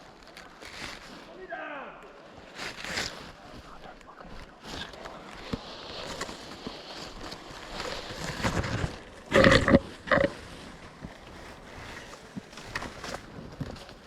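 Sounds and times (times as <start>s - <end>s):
rustling through brush: 0.0s - 14.0s.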